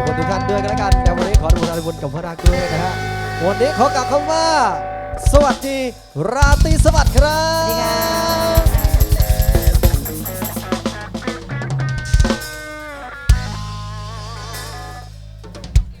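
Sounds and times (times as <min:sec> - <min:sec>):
band holding wavering chords: 0:00.0 - 0:06.1, 0:06.8 - 0:15.2
drum roll: 0:00.0 - 0:16.0.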